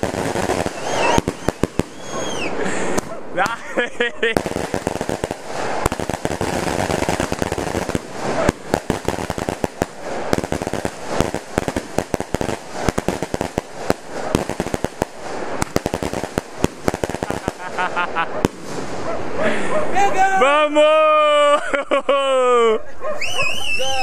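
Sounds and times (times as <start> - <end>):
steady hiss: 0.0 - 19.4
fireworks bangs and crackles: 0.0 - 20.0.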